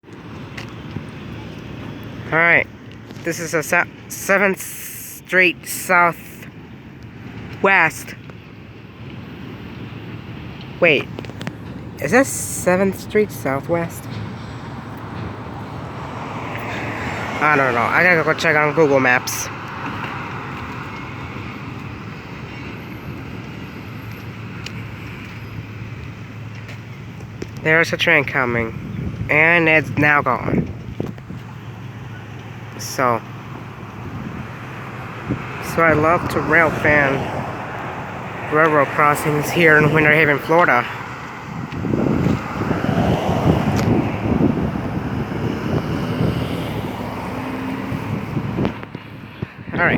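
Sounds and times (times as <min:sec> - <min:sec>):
wind buffeting microphone: 0:08.9 - 0:27.6, 0:28.5 - 0:49.9.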